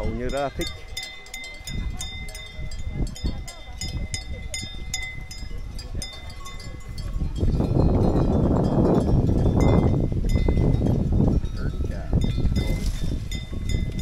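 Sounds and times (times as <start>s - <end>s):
animal bells clanking: 0.0s - 14.0s.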